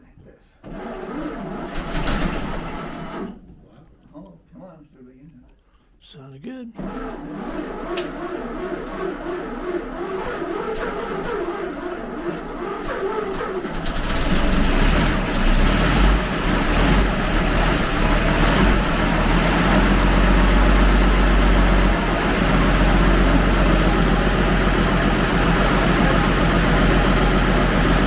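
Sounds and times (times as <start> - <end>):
car engine cranking and idling: 0.7 - 3.4, 6.8 - 28.0.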